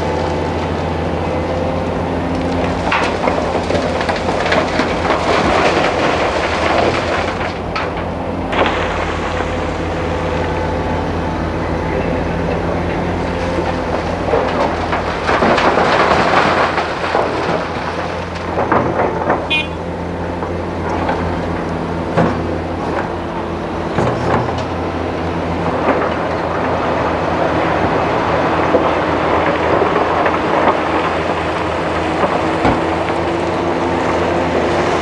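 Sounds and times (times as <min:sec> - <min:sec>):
diesel excavator engine running: 0:00.0 - 0:35.0
rock and gravel tumbling into truck: 0:00.0 - 0:35.0.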